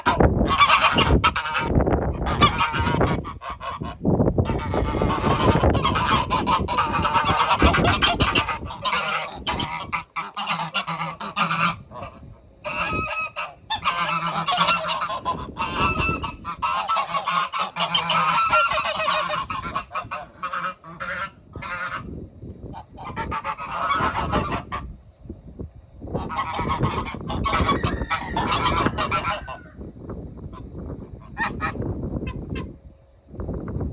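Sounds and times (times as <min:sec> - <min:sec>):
goose honking: 0:00.0 - 0:22.1, 0:23.0 - 0:24.8, 0:26.2 - 0:29.7.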